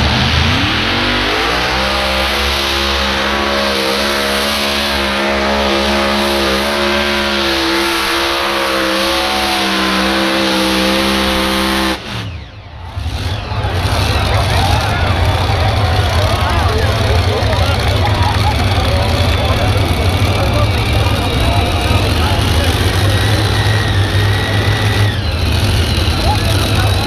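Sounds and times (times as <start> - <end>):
tractor engine revving: 0.0 - 27.0.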